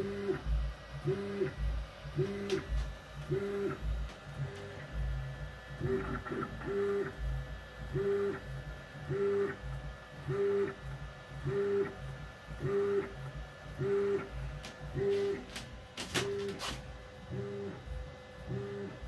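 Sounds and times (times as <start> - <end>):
machine motors whining: 0.0 - 19.0.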